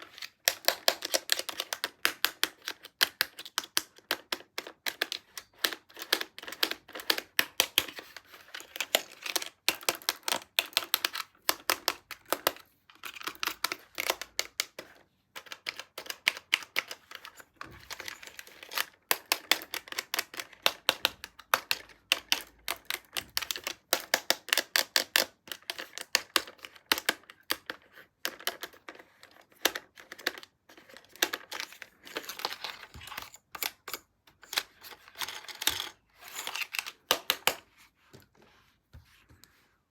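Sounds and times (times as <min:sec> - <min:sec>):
hard plastic clicking and tapping: 0:00.4 - 0:37.6.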